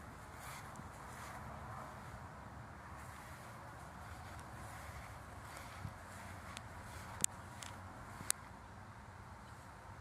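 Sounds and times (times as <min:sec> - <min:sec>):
garden background hum: 0:00.0 - 0:10.0.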